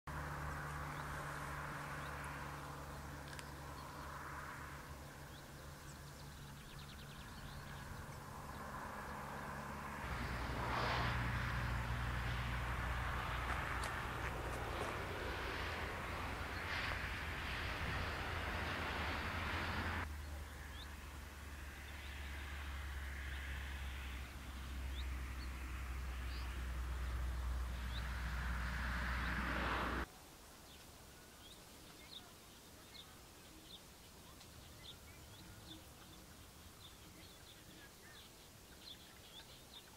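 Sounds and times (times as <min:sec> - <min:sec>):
songbirds chirping: 0:00.1 - 0:39.9.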